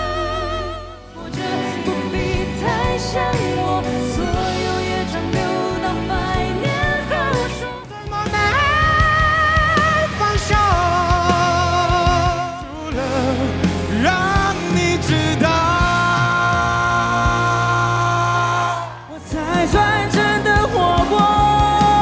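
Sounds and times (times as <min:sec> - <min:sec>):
bass guitar: 0:00.0 - 0:22.0
person singing pop-rock: 0:00.0 - 0:22.0.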